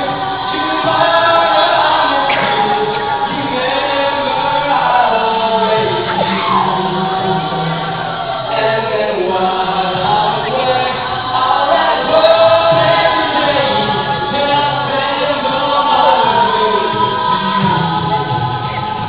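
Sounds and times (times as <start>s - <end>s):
vocal group singing a cappella: 0.0s - 19.0s.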